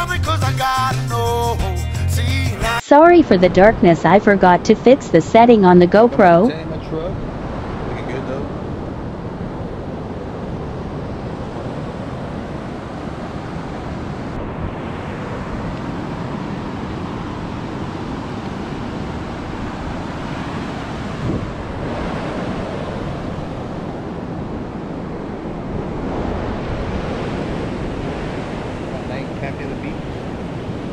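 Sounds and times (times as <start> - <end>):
ocean surf washing onto beach: 3.3 - 30.9
wind buffeting microphone: 3.3 - 30.9.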